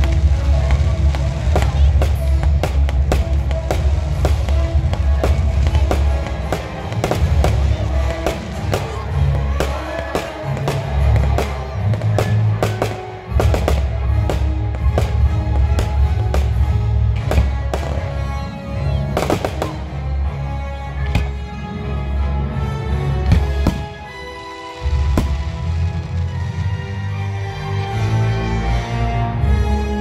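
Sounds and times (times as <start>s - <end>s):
fireworks bangs and crackles: 0.0s - 20.4s, 21.0s - 21.7s, 23.2s - 27.1s.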